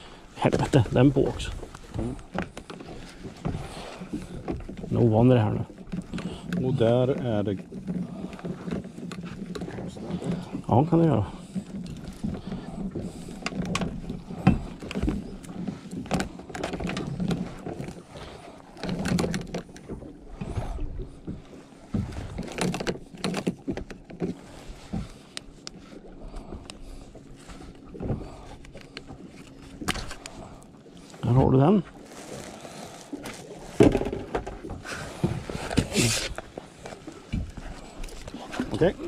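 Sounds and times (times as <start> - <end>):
traps and line clicking and rattling: 0.3 - 39.0.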